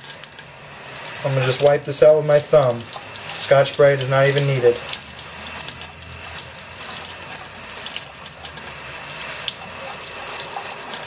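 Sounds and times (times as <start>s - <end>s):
tap water running into sink: 0.0s - 11.0s
water splashing: 0.0s - 11.0s.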